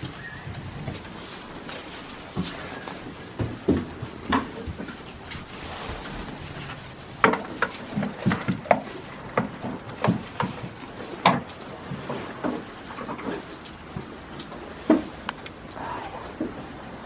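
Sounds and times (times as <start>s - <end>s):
goats knocking and rustling on straw: 0.0s - 15.6s.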